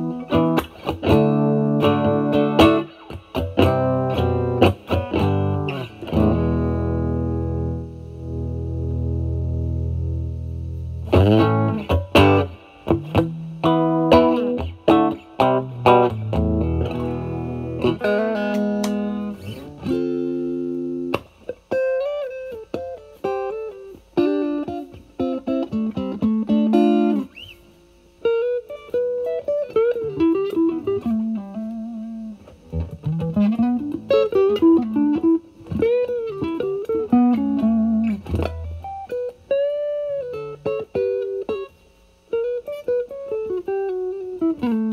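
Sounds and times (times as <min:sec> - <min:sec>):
overdriven electric guitar: 0:00.0 - 0:44.9.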